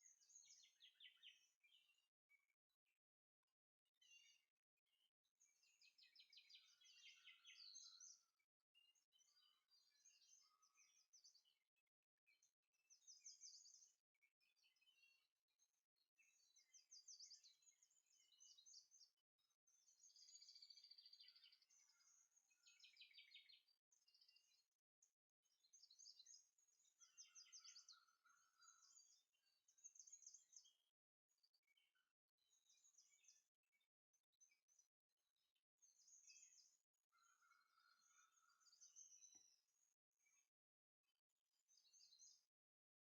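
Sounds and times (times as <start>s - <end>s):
faint songbird chirping: 0.0s - 43.0s.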